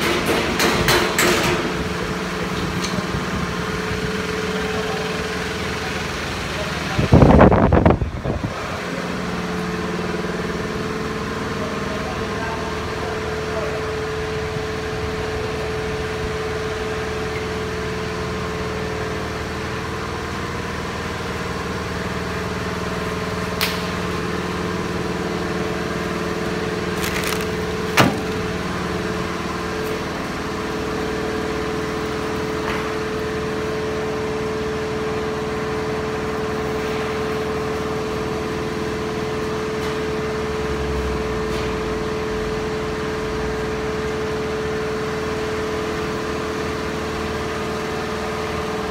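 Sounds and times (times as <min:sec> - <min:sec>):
machine hum with steady tone: 0:00.0 - 0:48.9.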